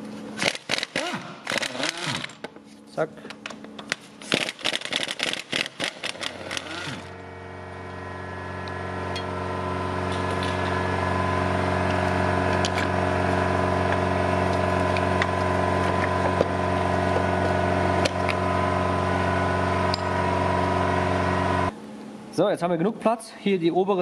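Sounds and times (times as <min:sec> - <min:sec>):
machine hum: 0:00.0 - 0:22.5.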